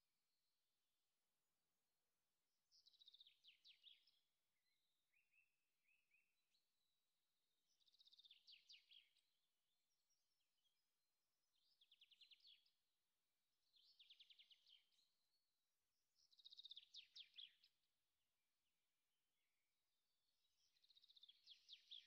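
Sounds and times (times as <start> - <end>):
faint bird song: 0.0 - 22.0.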